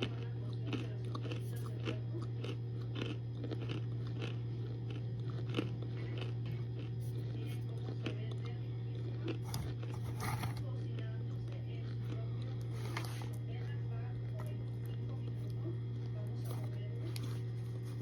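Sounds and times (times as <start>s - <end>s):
chewing crunchy food: 0.0s - 18.0s
steady low hum: 0.0s - 18.0s.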